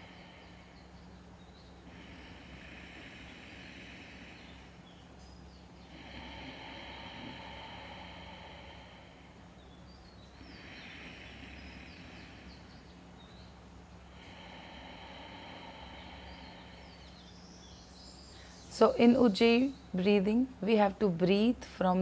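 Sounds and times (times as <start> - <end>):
slow throat breathing: 0.0 - 18.7.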